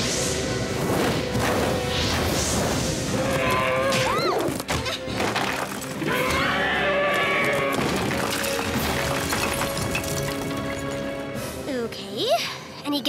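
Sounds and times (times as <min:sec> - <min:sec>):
dramatic action music: 0:00.0 - 0:13.0.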